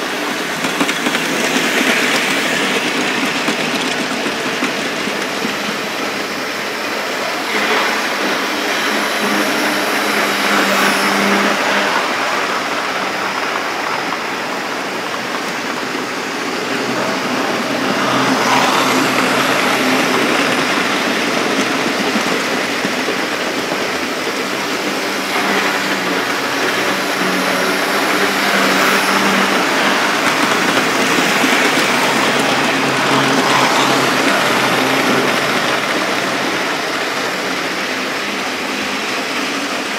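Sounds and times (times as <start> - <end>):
model train wheels rumbling: 0.0 - 39.9.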